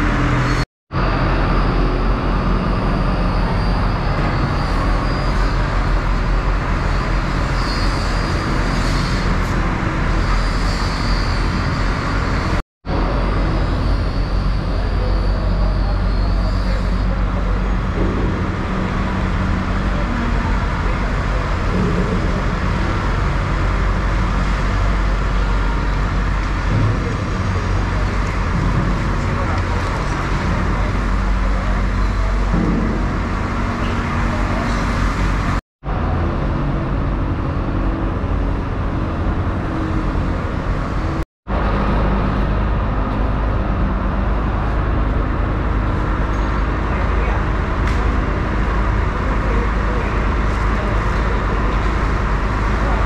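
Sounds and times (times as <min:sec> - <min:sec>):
low motor drone: 0:00.0 - 0:53.0.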